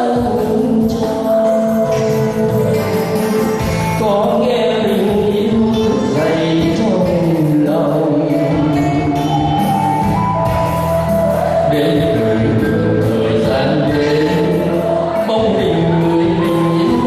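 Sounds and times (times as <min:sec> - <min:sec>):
live instrumental accompaniment: 0:00.0 - 0:17.0
man singing into a microphone: 0:00.0 - 0:17.0.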